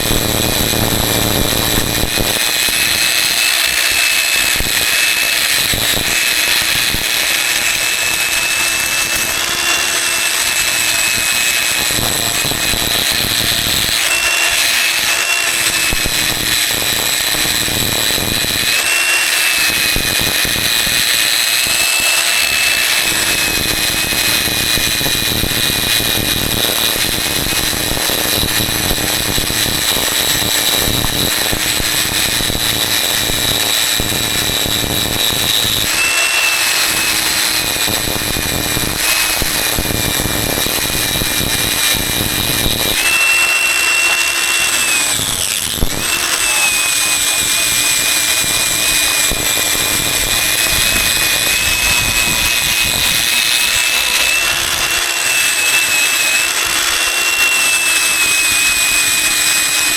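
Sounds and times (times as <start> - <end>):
electric power tool whining: 0.0 - 59.9.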